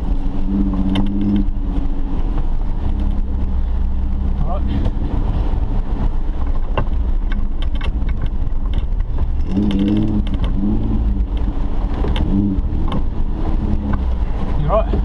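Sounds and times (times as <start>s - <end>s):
engine revving under load: 0.0s - 7.1s, 9.2s - 15.0s.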